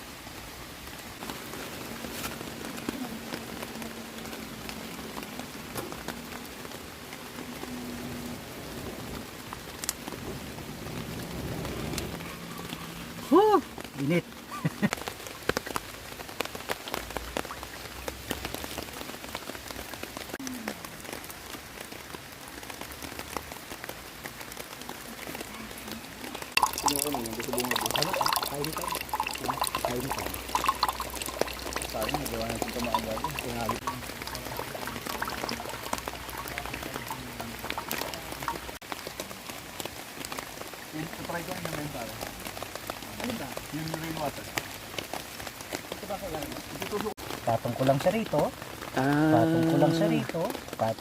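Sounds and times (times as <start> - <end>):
rain hissing: 0.0 - 51.0
raindrops ticking on surfaces: 0.0 - 51.0.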